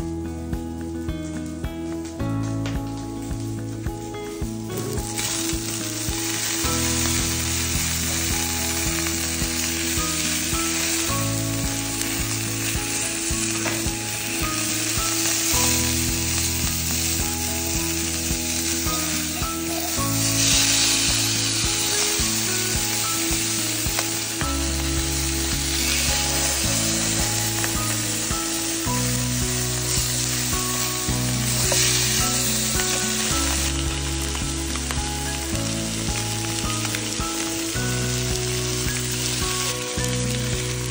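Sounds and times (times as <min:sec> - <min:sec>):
background music low notes: 0:00.0 - 0:40.9
fish sizzling in a pan: 0:00.0 - 0:40.9.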